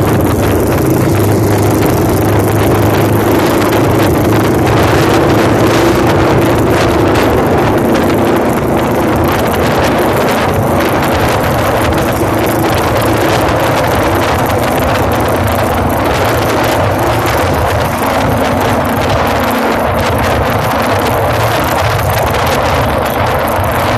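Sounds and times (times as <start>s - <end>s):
motorcycle engine running: 0.0s - 23.9s
wind noise on microphone: 0.0s - 23.9s.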